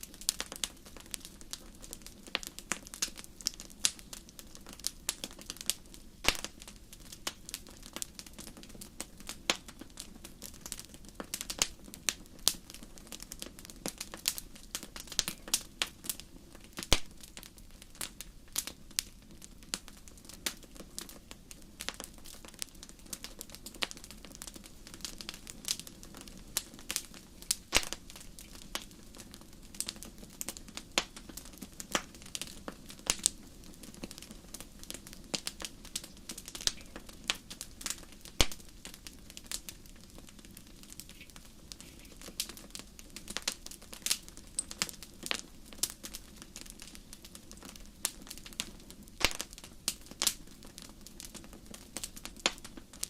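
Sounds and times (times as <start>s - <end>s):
soft rush of flame: 0.0s - 53.0s
wood fire crackling and popping: 0.0s - 53.0s.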